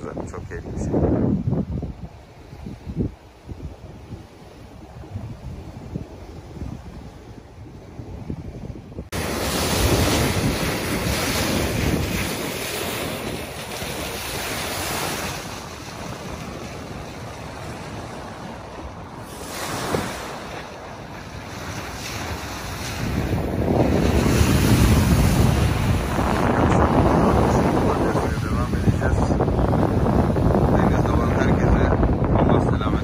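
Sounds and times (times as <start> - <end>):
water rushing past hull: 0.0 - 33.0
wind buffeting microphone: 0.0 - 33.0.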